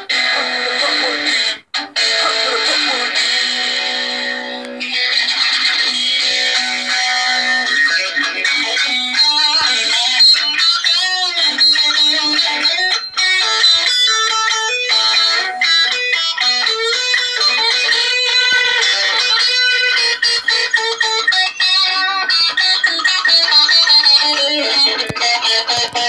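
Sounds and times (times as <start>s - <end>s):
electric guitar lead line: 0.0s - 26.0s.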